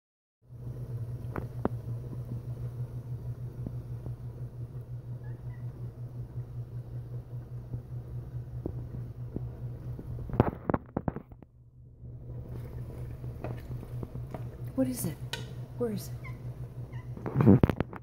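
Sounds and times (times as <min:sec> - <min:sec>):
low steady rumble: 0:00.5 - 0:18.0.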